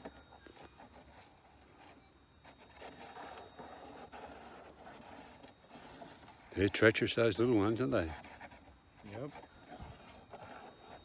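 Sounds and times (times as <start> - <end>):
dirt and gravel scraping: 0.0 - 11.0.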